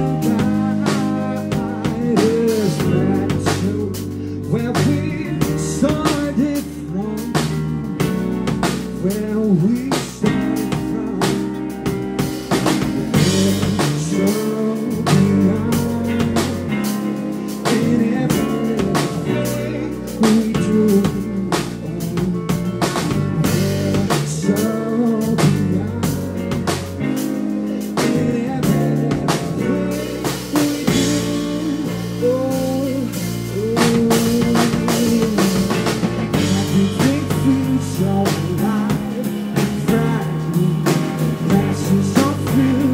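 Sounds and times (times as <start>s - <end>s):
drum kit with rimshots: 0.0s - 42.9s
guitar: 0.0s - 42.9s
pitch-bending melody line: 7.8s - 42.9s.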